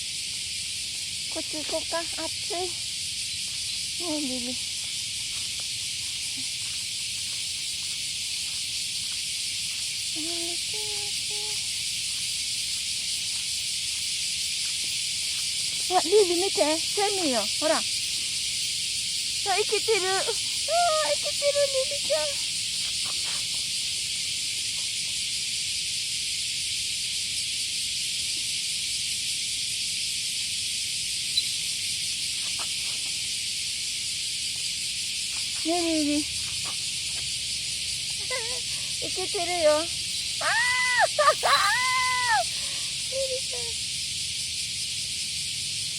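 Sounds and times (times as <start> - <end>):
cicadas droning: 0.0 - 45.9.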